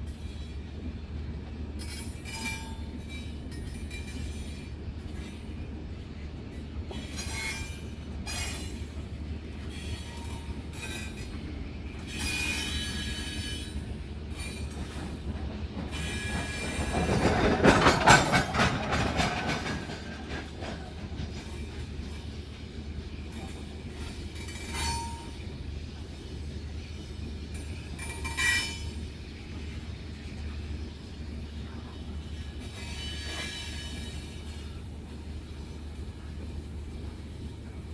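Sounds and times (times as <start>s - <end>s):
freight train rumbling: 0.0s - 37.9s.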